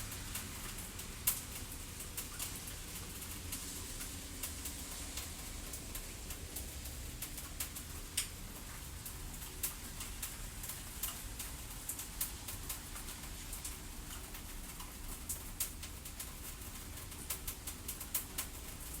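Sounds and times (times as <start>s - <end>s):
low steady fire rumble: 0.0s - 19.0s.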